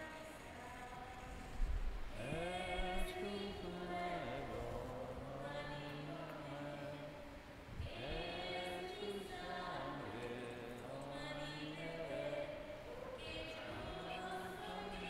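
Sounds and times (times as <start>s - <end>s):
hymn singing: 0.0s - 1.5s, 2.1s - 15.0s.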